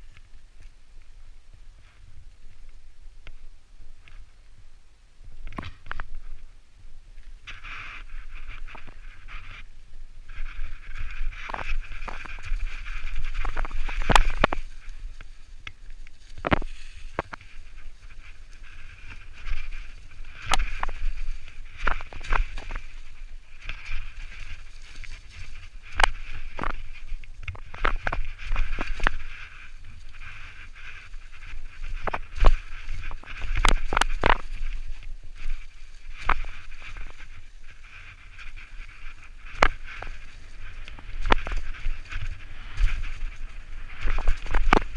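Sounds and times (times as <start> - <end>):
bike knocking and rattling: 7.4 - 44.9.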